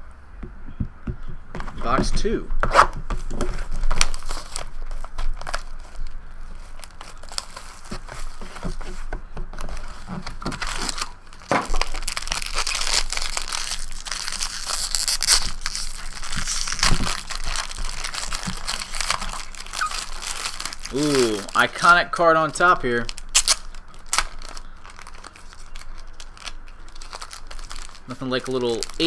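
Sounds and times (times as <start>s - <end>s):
foil wrapper tearing and crinkling: 3.6s - 9.0s, 9.6s - 29.0s.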